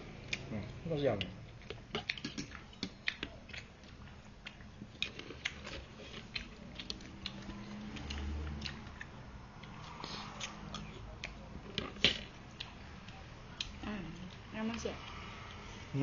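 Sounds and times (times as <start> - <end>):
person chewing: 0.2 - 14.4.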